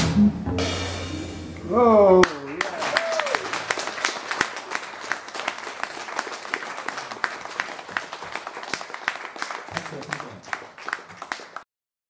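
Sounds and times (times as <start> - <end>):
audience applauding: 1.8 - 11.7.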